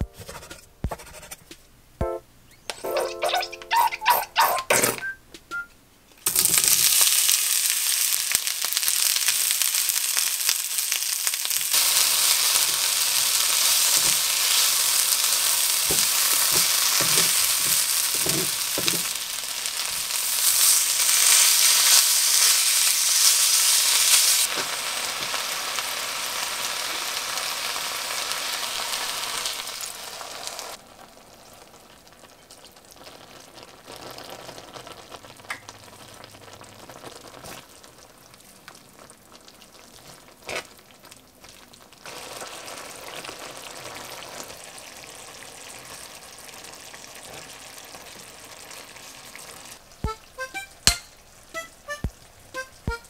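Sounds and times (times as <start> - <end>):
onion sizzling in hot oil: 6.2 - 53.0.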